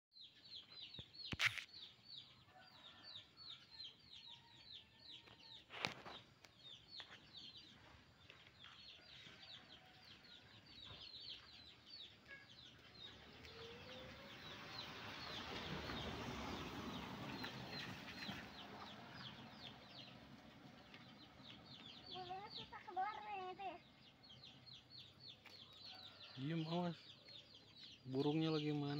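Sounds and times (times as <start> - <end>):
small birds chirping: 0.1 - 28.9.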